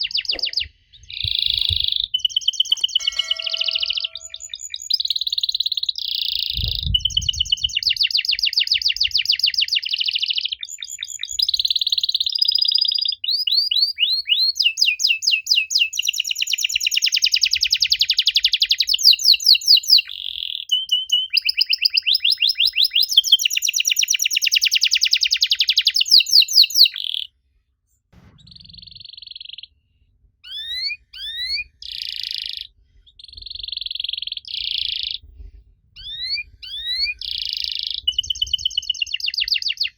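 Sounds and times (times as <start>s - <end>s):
canary singing trills: 0.0s - 27.3s, 30.4s - 35.3s, 36.0s - 39.9s.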